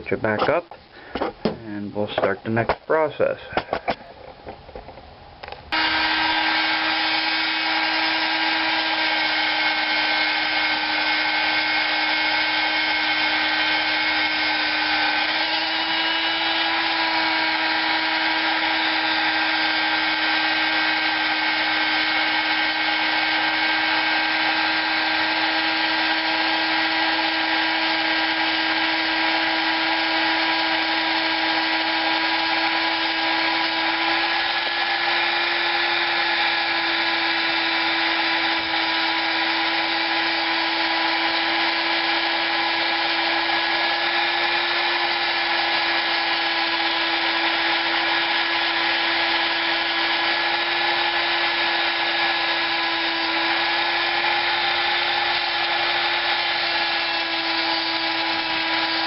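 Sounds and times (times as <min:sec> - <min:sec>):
rotary tool high whine: 0:05.4 - 0:59.0.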